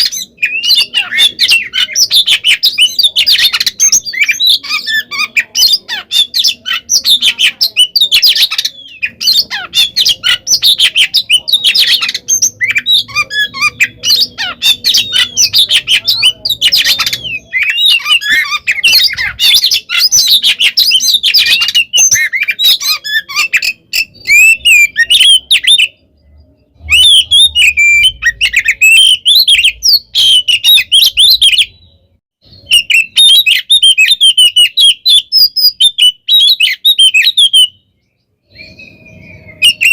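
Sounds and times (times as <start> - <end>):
bird singing loudly: 0.0 - 39.9.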